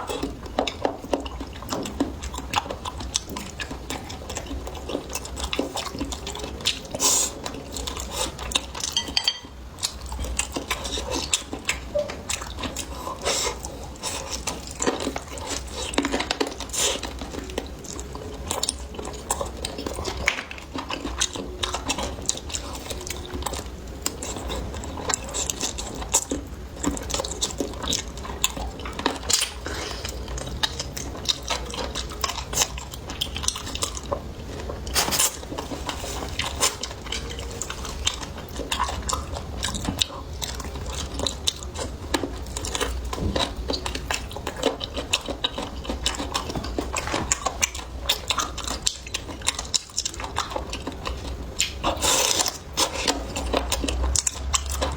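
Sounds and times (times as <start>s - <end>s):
chewing: 0.0s - 54.9s.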